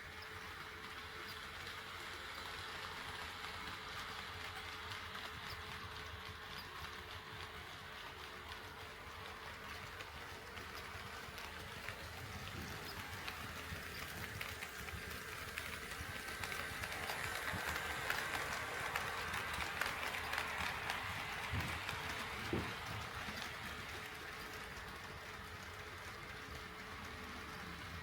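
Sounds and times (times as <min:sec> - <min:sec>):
model train running hiss: 0:00.0 - 0:28.0
model train wheels clicking: 0:00.0 - 0:28.0.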